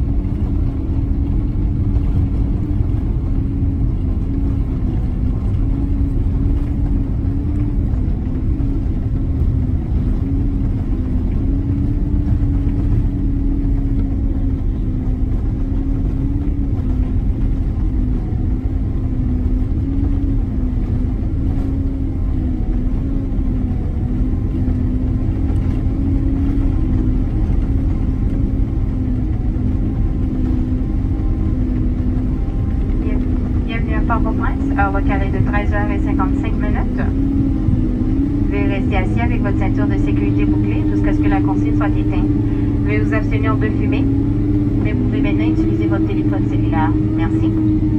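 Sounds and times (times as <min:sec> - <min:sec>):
jet engine hum: 0:00.0 - 0:47.9
wheels rumbling and rushing air: 0:00.0 - 0:47.9.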